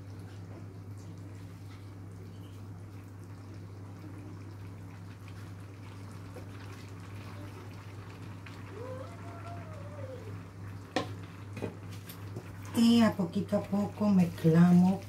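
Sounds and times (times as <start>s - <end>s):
stew bubbling in a pan: 0.0s - 15.0s.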